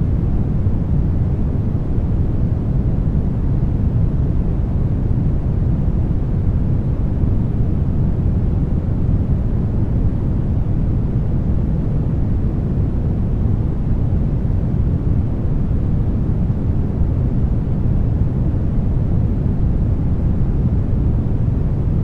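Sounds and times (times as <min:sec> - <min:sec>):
brown noise rumbling hiss: 0:00.0 - 0:22.0.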